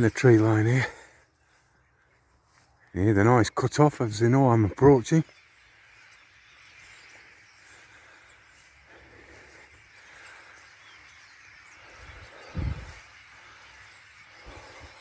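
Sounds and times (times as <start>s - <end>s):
flock of birds chattering: 0.0s - 15.0s.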